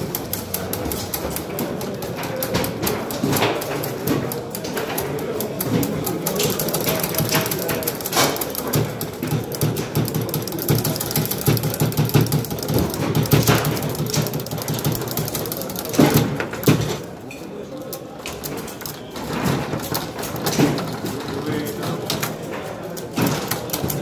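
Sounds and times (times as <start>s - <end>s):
foosball rods rattling: 0.0s - 17.2s, 18.0s - 24.0s
figures clicking against ball: 0.0s - 24.0s.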